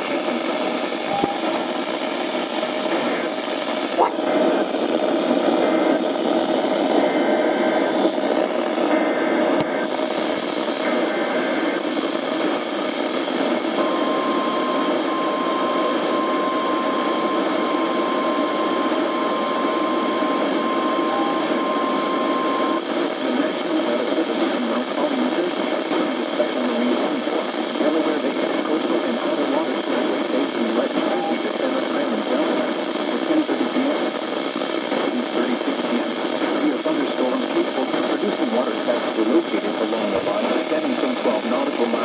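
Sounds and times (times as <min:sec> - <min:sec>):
radio static hiss: 0:00.0 - 0:14.0, 0:21.4 - 0:42.0.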